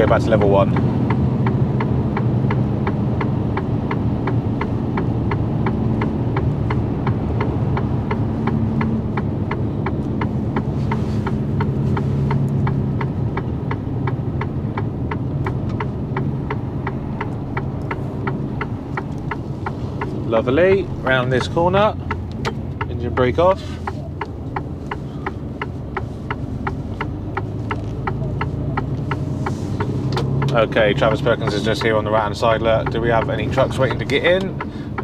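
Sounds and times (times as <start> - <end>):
engine and road drone: 0.0 - 35.0
truck indicator ticking: 0.0 - 35.0.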